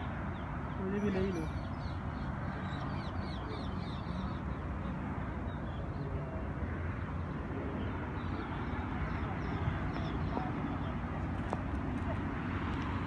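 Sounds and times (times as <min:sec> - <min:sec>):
small birds chirping: 0:00.0 - 0:06.4, 0:07.0 - 0:12.2
low rumble of city traffic: 0:00.0 - 0:13.0.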